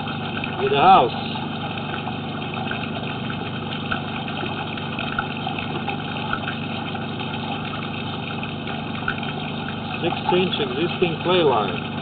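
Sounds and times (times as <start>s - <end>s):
motor hum: 0.0s - 12.0s
water running into sewer: 0.0s - 12.0s.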